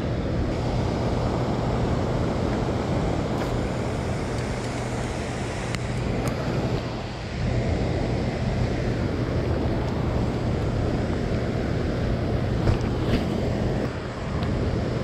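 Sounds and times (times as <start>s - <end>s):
boat motor humming: 0.0s - 15.0s
wind on microphone: 0.0s - 15.0s
rain: 0.6s - 12.8s.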